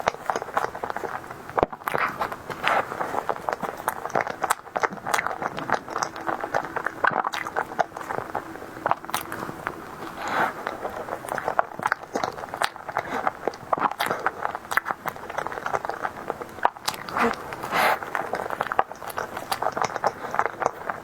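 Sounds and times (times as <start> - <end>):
person chewing: 0.0 - 21.0
wet mouth clicks and smacks: 0.0 - 21.0.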